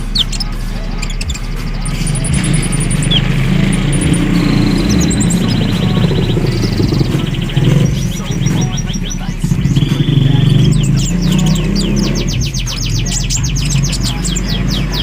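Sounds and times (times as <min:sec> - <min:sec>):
background pop music: 0:00.0 - 0:15.0
sunbirds chirping and trilling: 0:00.0 - 0:15.0.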